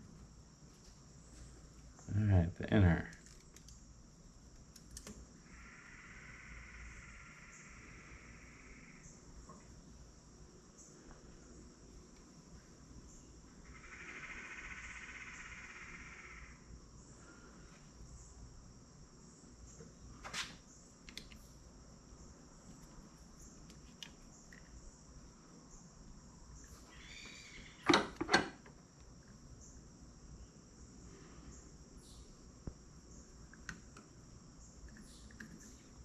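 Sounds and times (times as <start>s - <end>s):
faint high-pitched chirring: 0.0s - 36.0s.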